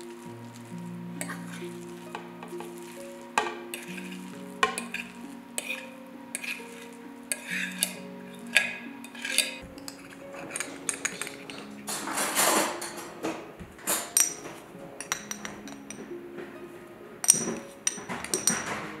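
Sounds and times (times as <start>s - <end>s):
rustling: 0.0s - 19.0s
soft background music: 0.0s - 19.0s
spoons clinking on bowl and jar: 1.2s - 13.1s, 13.8s - 16.0s, 17.2s - 19.0s.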